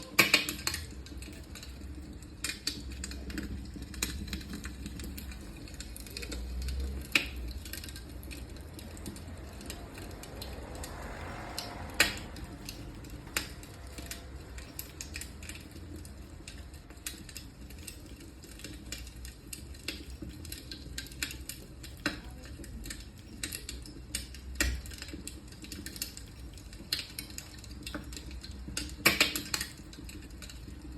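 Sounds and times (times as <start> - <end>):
electric fireplace clicks and crackles: 0.0 - 30.9.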